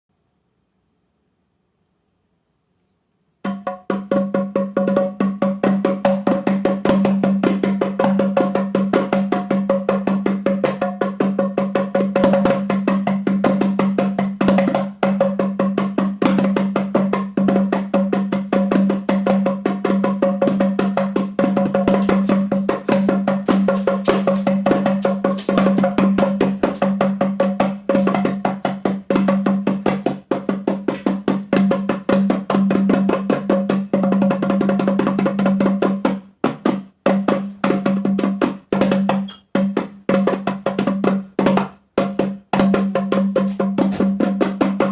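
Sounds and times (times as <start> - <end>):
hand drums fast rhythm: 3.4 - 44.9.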